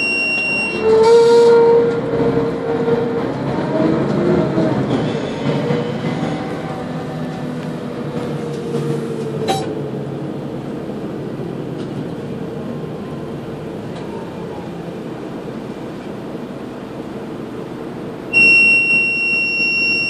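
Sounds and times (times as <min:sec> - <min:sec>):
bus engine rumble with whine: 0:00.0 - 0:20.0.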